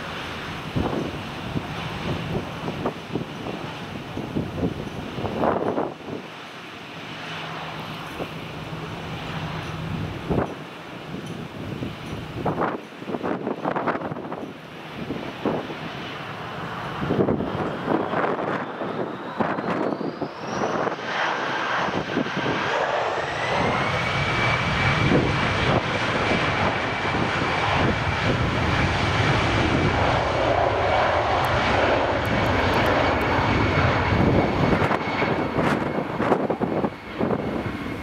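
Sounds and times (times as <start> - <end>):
jet engine roar: 0.0 - 38.0
jet engine whine: 0.0 - 38.0
jet engines spooling up: 7.2 - 38.0.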